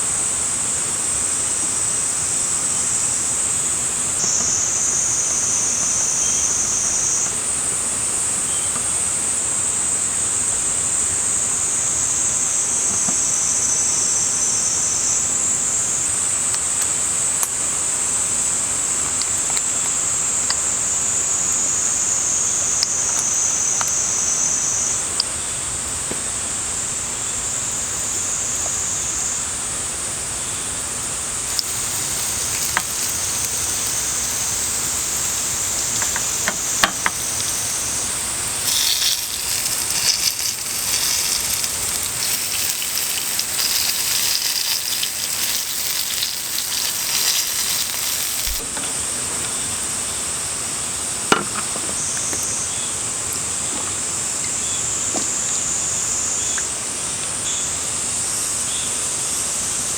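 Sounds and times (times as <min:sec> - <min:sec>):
loud sizzling hiss: 0:00.0 - 0:51.2
cicadas buzzing: 0:00.0 - 0:59.9.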